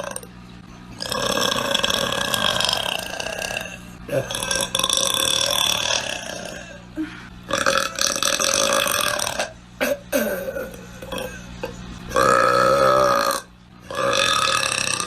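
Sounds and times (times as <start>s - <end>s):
woman burping: 1.0s - 15.0s.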